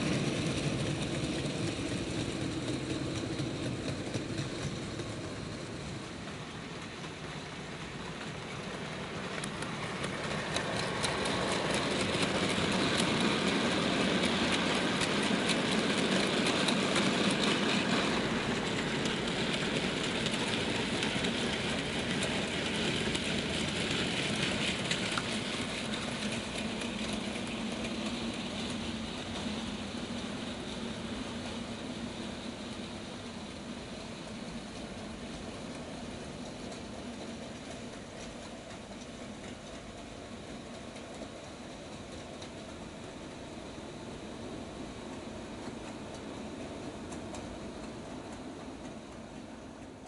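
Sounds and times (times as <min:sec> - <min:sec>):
train wheels clicking over rail joints: 0:00.0 - 0:50.0.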